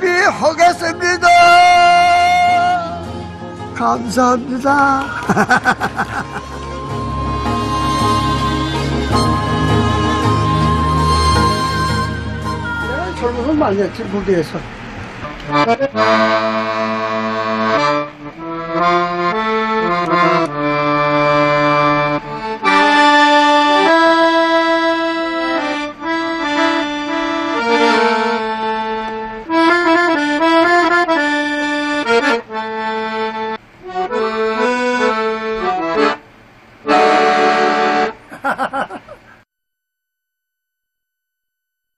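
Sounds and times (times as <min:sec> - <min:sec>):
piano accordion playing: 0:00.0 - 0:14.2, 0:15.2 - 0:38.3.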